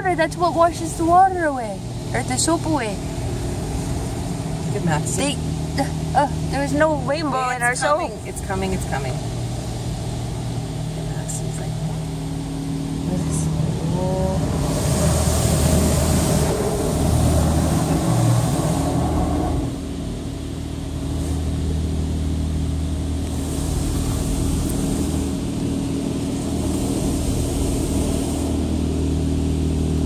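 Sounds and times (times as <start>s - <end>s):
low machinery hum: 0.0s - 30.0s
water jets spraying on car: 0.0s - 30.0s.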